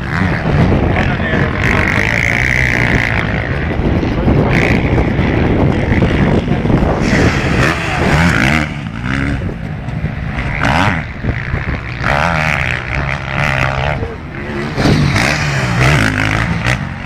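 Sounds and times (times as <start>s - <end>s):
motocross bike engines racing: 0.0s - 17.0s.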